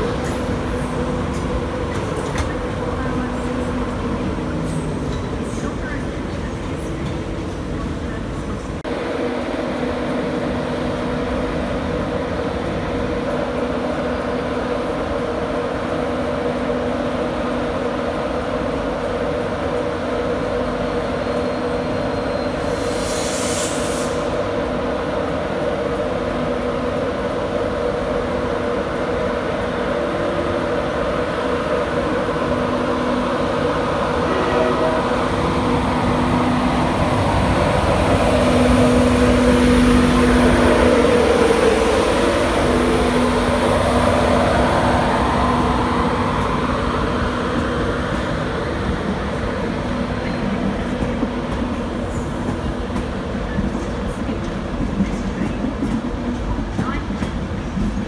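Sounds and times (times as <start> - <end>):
electric locomotive humming: 0.0 - 58.0.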